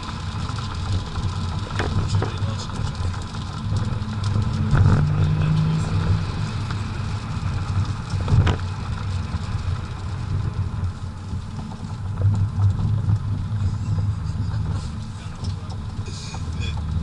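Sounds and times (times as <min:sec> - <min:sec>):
diesel engine pulling: 0:00.0 - 0:17.0
tyre and road noise: 0:00.0 - 0:17.0.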